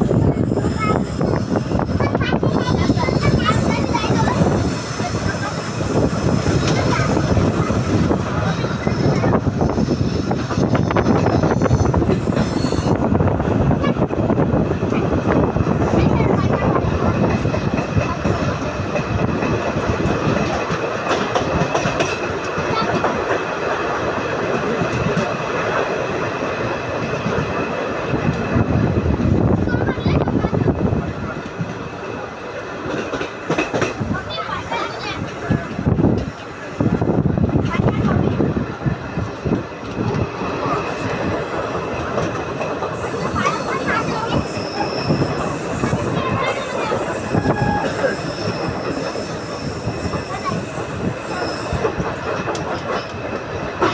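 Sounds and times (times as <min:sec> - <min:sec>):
clickety-clack of rail joints: 0:00.0 - 0:53.9
train wheels rumbling on track: 0:00.0 - 0:53.9.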